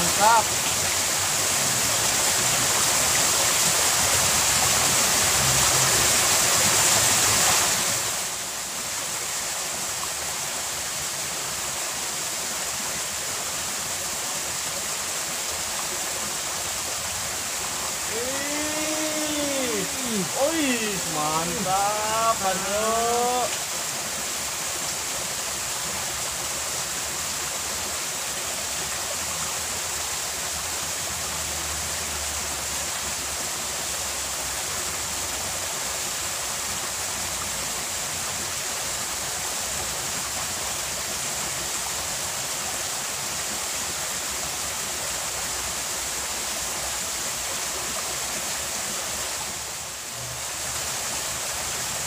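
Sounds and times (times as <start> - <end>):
stream rushing over stones: 0.0 - 52.0.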